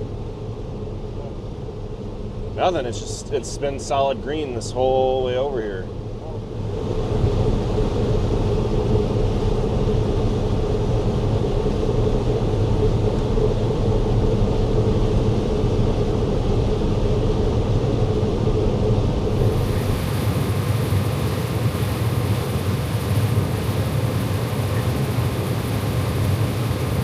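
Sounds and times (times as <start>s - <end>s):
combine harvester low drone: 0.0s - 27.0s.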